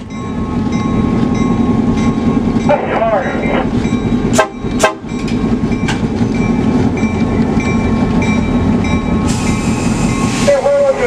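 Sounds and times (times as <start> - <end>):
diesel locomotive engine: 0.0 - 11.0.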